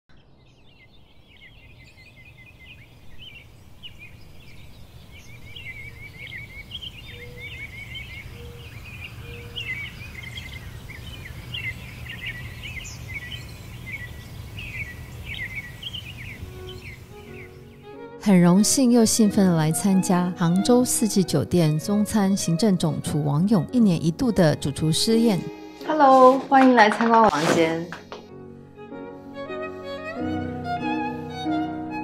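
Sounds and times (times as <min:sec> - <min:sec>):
small birds chirping: 0:00.1 - 0:26.5.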